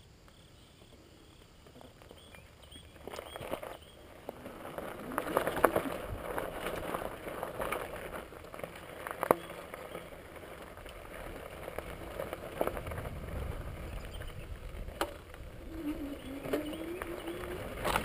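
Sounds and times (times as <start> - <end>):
bike tyres crunching on gravel: 0.0 - 18.0
bike rattling over bumps: 0.7 - 18.0.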